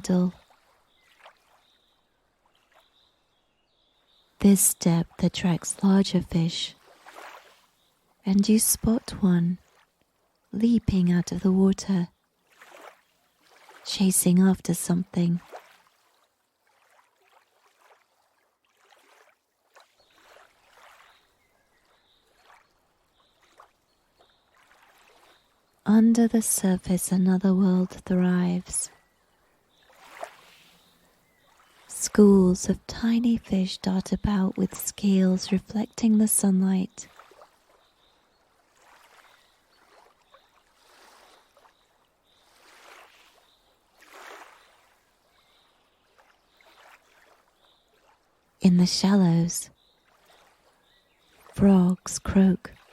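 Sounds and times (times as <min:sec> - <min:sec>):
water lapping and splashing: 0:00.0 - 0:04.4, 0:05.0 - 0:10.6, 0:11.2 - 0:52.9.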